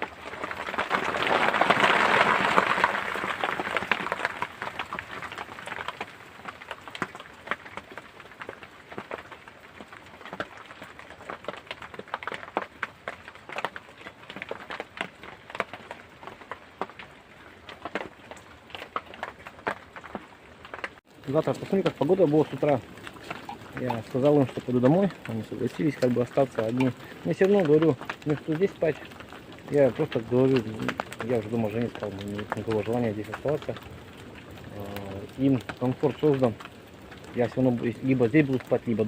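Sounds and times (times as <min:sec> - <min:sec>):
rain falling: 0:00.0 - 0:39.0
raindrops tapping nearby: 0:00.0 - 0:39.0.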